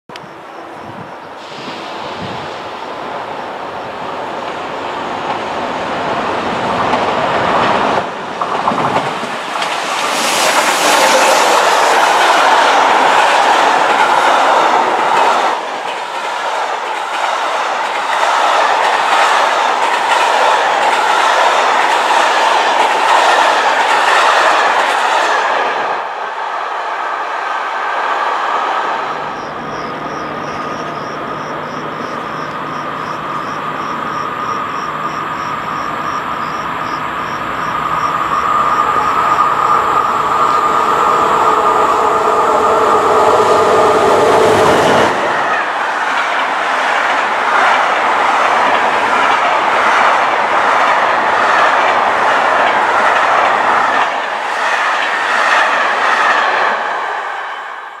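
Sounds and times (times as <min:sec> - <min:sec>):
electric locomotive rush and hum: 0:00.1 - 0:58.0.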